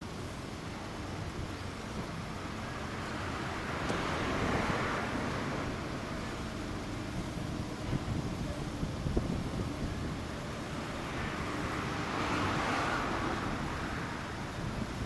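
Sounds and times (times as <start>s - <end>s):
vehicle passing by: 2.9s - 15.0s.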